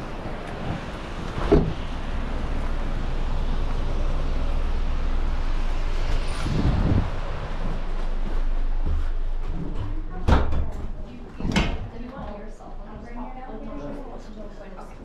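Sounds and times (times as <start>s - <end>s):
low rumble: 0.0s - 14.8s.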